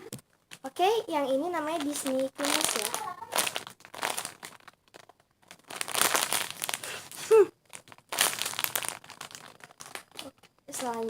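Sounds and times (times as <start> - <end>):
crinkling plastic wrappers: 0.2 - 11.0.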